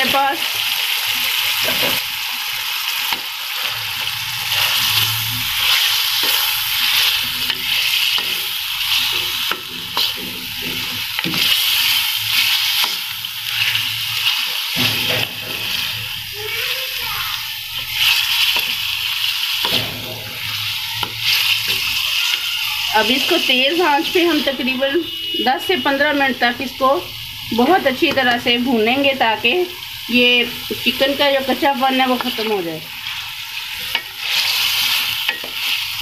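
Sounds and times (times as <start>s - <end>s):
chicken sizzling in pan: 0.0s - 36.0s.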